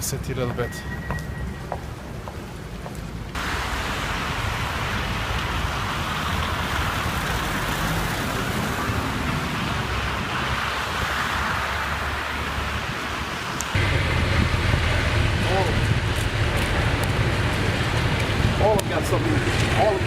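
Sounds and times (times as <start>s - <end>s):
traffic hiss on wet streets: 0.9s - 20.0s.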